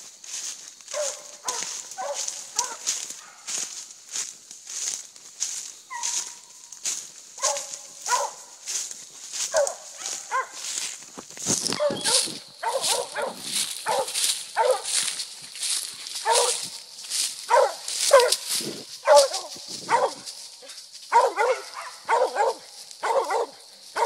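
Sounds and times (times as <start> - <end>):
footsteps crunching dry leaves: 0.0 - 24.0
hound dogs barking and baying: 0.9 - 3.8, 5.9 - 11.0, 11.6 - 24.0.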